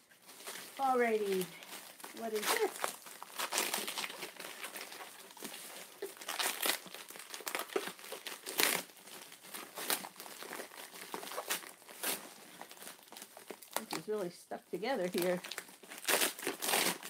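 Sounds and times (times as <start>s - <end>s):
plastic packaging crinkling: 0.1s - 17.0s.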